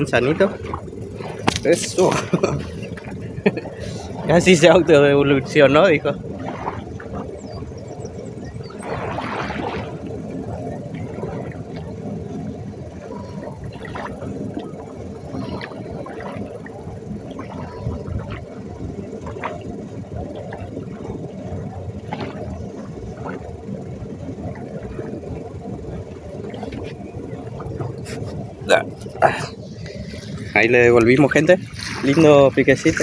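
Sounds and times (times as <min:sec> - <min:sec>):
short water splashes: 0:00.0 - 0:12.1, 0:13.0 - 0:23.6, 0:24.4 - 0:33.0
river water gurgling: 0:00.0 - 0:33.0.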